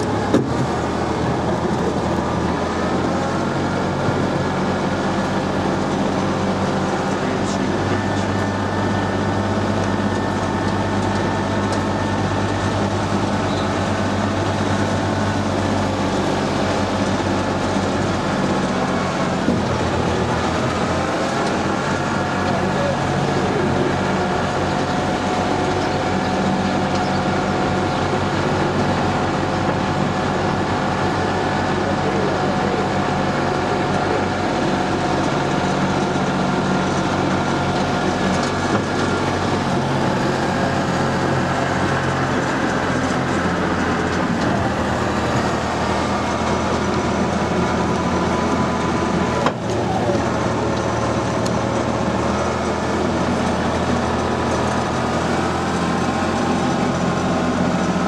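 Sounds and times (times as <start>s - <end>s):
tram engine humming: 0.0s - 58.0s.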